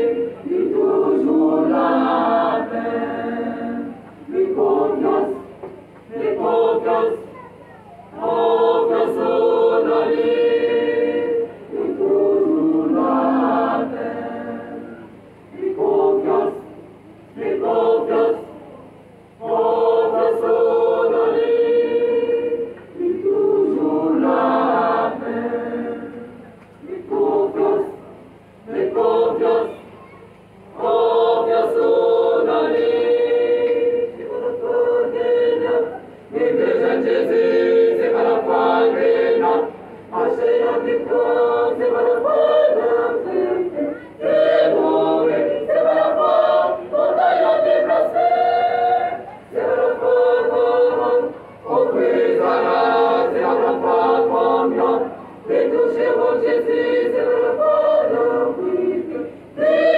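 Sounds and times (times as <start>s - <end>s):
church choir singing: 0.0s - 7.4s, 8.1s - 18.6s, 19.3s - 29.9s, 30.7s - 59.9s.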